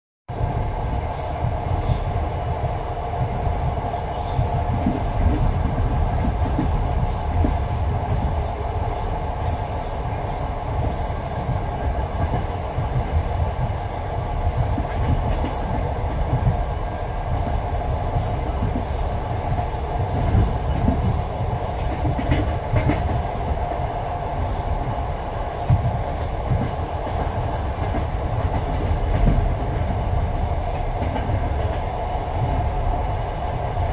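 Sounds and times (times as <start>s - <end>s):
train wheels clattering: 1.1s - 32.7s.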